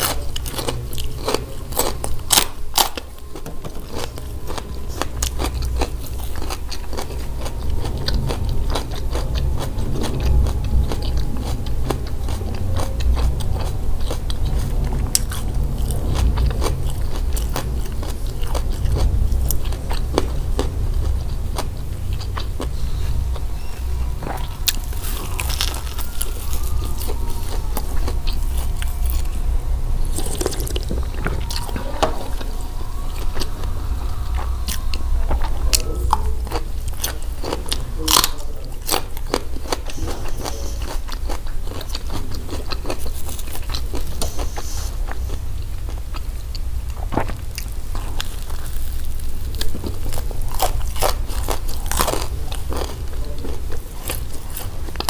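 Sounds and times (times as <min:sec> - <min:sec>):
crunchy bites and chewing: 0:00.0 - 0:55.0
steady low hum: 0:00.0 - 0:55.0.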